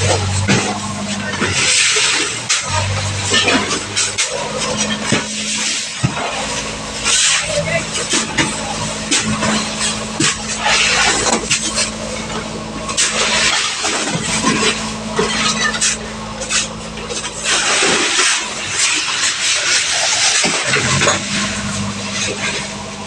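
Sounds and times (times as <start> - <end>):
boat engine humming: 0.0 - 23.0
rushing water: 0.0 - 23.0.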